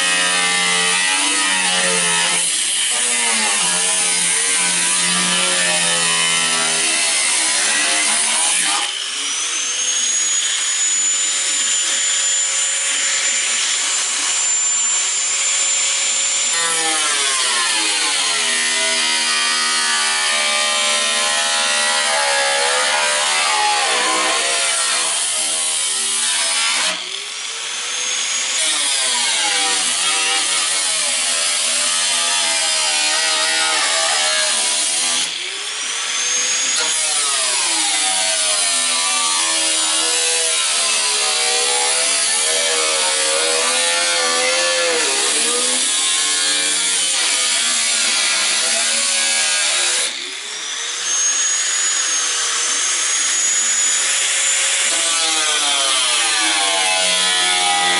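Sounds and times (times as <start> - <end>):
power tool cutting steel: 0.0 - 57.9.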